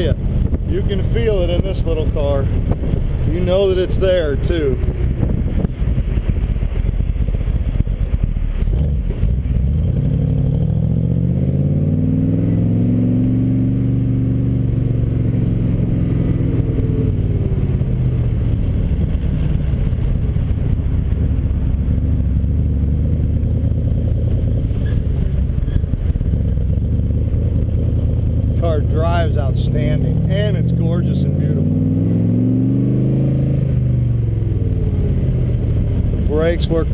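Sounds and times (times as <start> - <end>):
car engine running: 0.0 - 36.9
low road rumble: 0.0 - 36.9.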